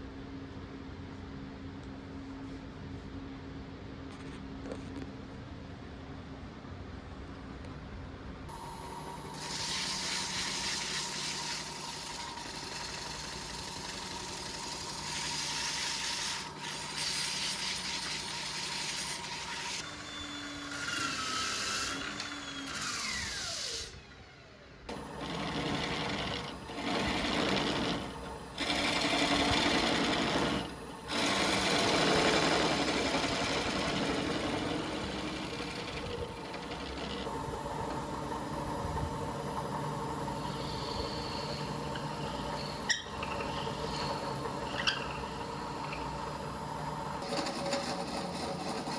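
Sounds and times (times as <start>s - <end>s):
electric power tool working wood: 8.5s - 48.9s.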